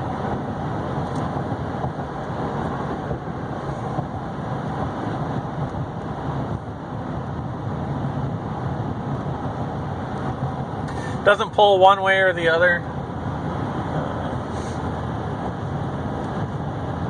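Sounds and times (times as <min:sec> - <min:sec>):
road and engine noise in truck cab: 0:00.0 - 0:17.0.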